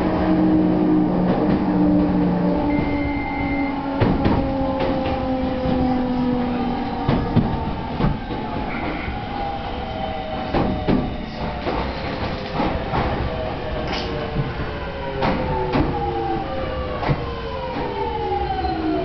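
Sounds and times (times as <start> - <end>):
train rumbling in tunnel: 0.0 - 19.0.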